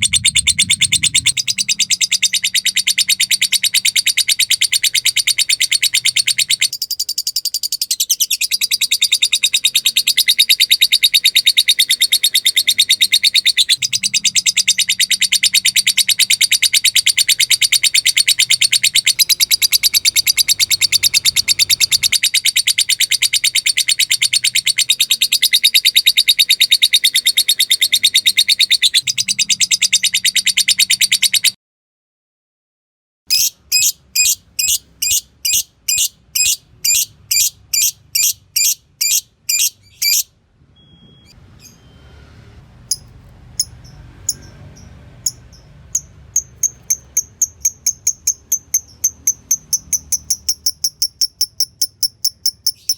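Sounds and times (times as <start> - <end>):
lovebird chattering trill: 0.0 - 31.5, 33.3 - 40.3, 42.9 - 52.9.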